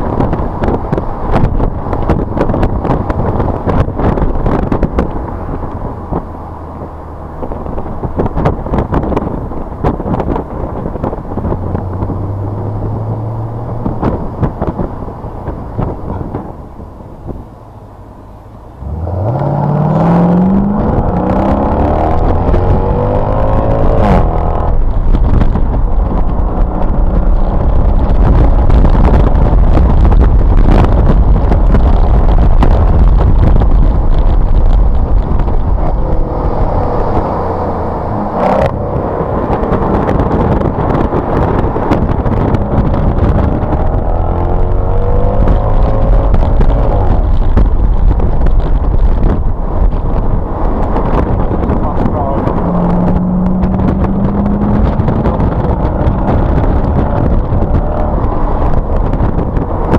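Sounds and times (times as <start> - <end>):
car engine accelerating: 0.0 - 59.9
wind and road rumble: 0.0 - 59.9.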